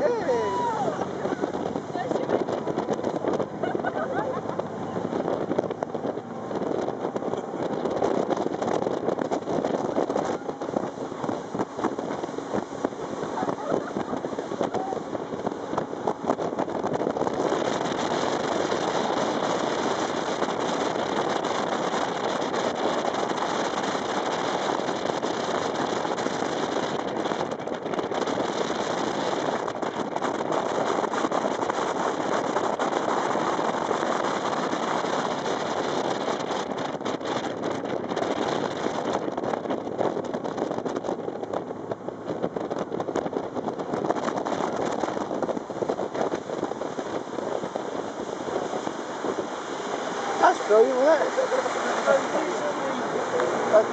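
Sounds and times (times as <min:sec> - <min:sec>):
speedboat engine noise: 0:00.0 - 0:53.9
water against hull: 0:00.0 - 0:53.9
wind over microphone: 0:00.0 - 0:53.9.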